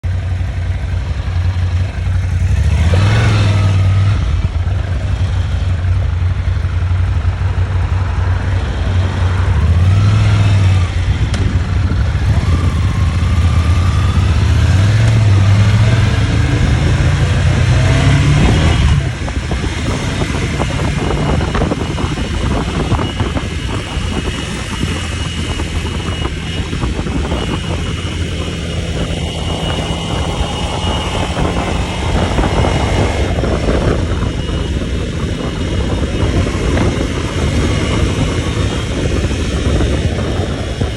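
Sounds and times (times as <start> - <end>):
road and wind noise: 0.0 - 40.9
vehicle engine revving: 0.0 - 40.9.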